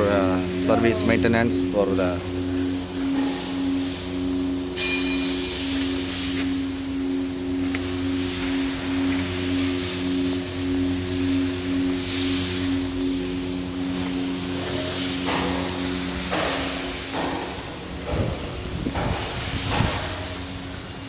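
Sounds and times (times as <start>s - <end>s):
chiller machine hum: 0.0s - 21.0s
air hiss: 2.4s - 21.0s.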